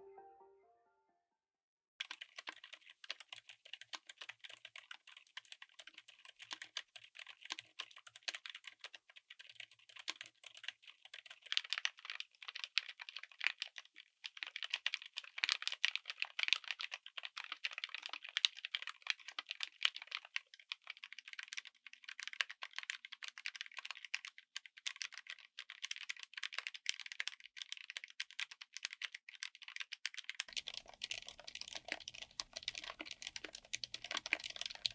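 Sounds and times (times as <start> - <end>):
muted mechanical keyboard typing: 2.0 - 34.9.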